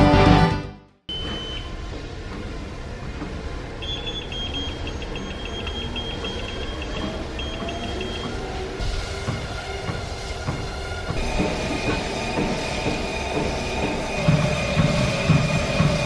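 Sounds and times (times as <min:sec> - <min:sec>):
treadmill console beeping: 0:01.1 - 0:16.0
treadmill running hum: 0:01.1 - 0:16.0.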